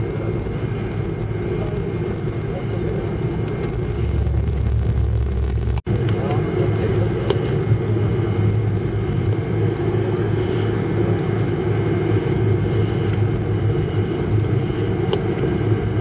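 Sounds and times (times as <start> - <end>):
airliner cabin hum and hiss: 0.0 - 16.0.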